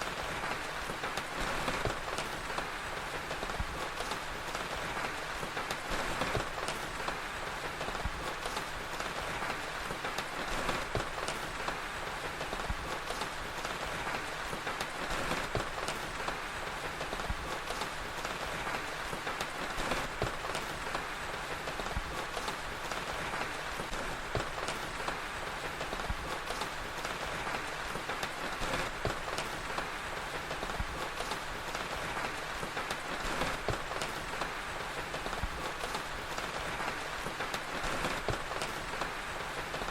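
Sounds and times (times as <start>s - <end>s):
steady rain hiss: 0.0s - 39.9s
wood fire crackling: 0.0s - 39.9s.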